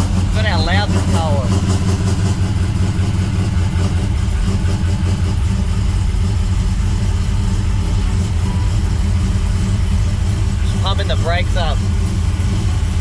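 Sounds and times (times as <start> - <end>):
car engine idling loudly: 0.0 - 13.0.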